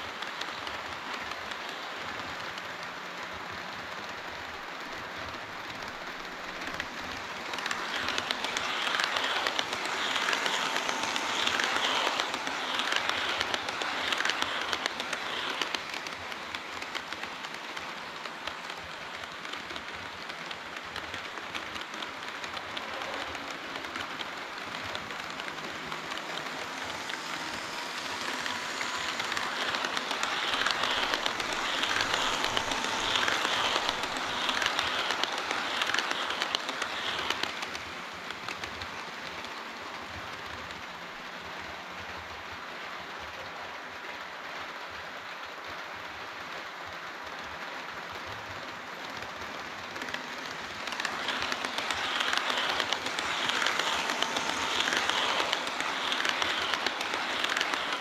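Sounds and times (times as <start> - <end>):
model train wheels rattling on rail: 0.0 - 58.0.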